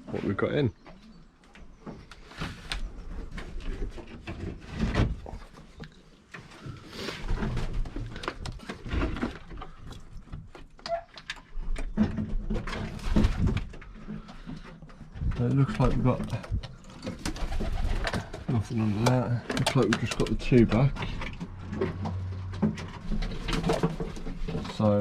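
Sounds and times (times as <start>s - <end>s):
pigeons stirring: 0.7s - 25.0s.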